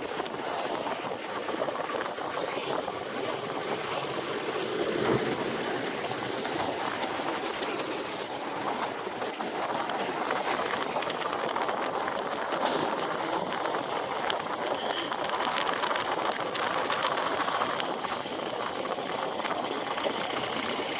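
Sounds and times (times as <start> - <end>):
wind and road noise from motorcycle: 0.0 - 20.9.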